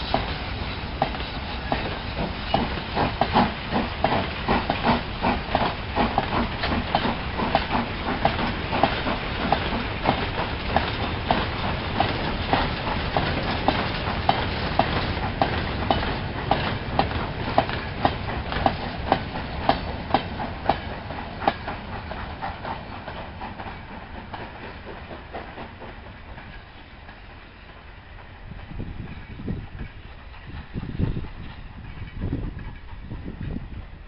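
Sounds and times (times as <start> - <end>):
steam locomotive exhaust hissing: 0.0 - 34.0.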